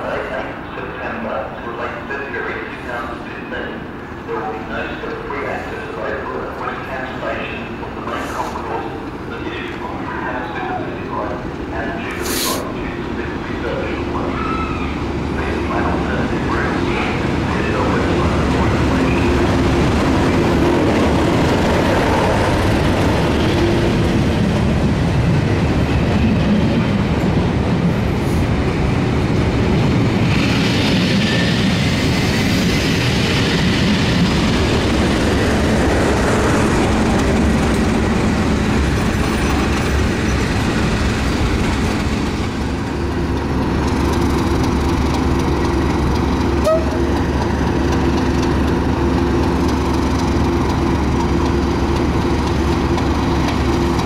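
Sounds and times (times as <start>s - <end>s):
diesel locomotive engine drone: 0.0s - 54.0s
train wheels rumbling on rails: 0.0s - 54.0s.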